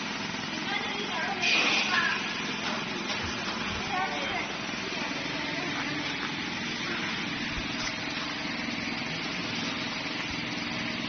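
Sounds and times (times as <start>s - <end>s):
production line machinery whirring: 0.0s - 11.0s.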